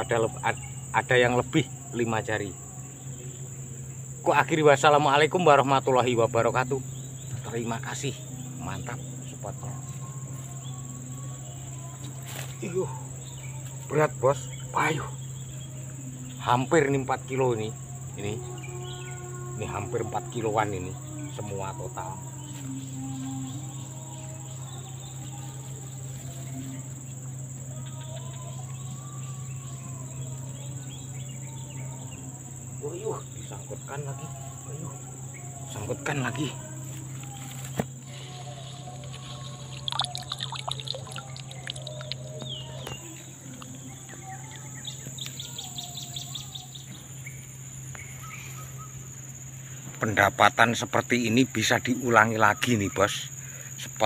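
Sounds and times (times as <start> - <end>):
birds chirping: 0.0 - 54.0
insects droning: 0.0 - 54.0.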